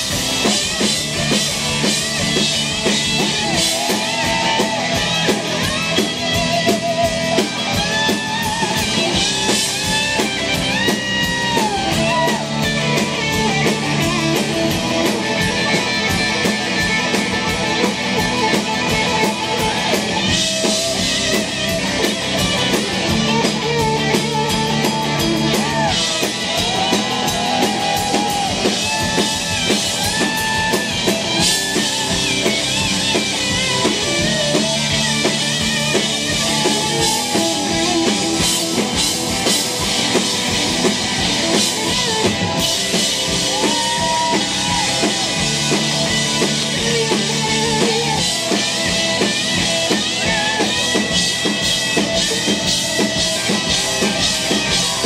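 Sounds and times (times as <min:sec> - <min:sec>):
drum kit beat: 0:00.0 - 0:55.0
electric guitar lead: 0:00.0 - 0:55.0
live rock band: 0:00.0 - 0:55.0.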